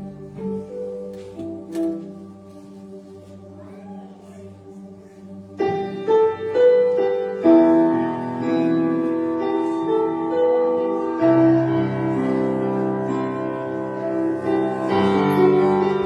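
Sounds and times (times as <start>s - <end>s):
piano-like slow melody: 0.0s - 16.0s
soft held chord: 0.0s - 16.0s.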